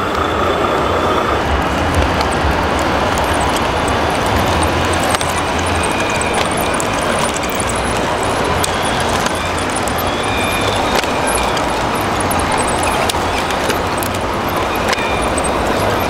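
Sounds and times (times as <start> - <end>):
clicks: 0.0 - 16.0
rc model machines running: 0.0 - 16.0.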